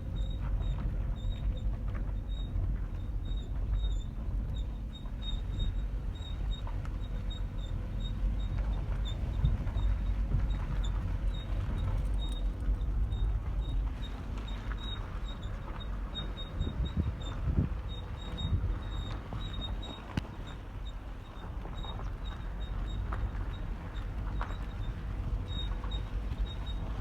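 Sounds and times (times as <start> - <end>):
car driving slowly: 0.0 - 27.0.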